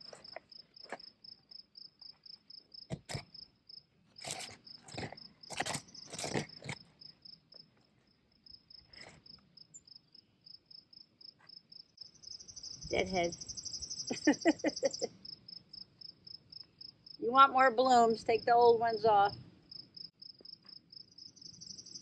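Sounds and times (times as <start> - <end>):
insect chirping: 0.0 - 17.2, 18.0 - 22.0.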